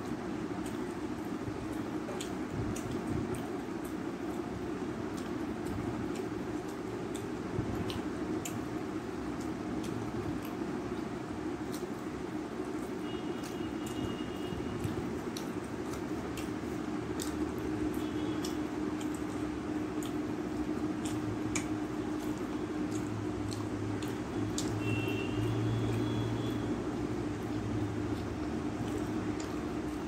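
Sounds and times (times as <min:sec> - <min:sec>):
fingers squishing rice: 0:00.0 - 0:30.0
low background hum: 0:00.0 - 0:30.0.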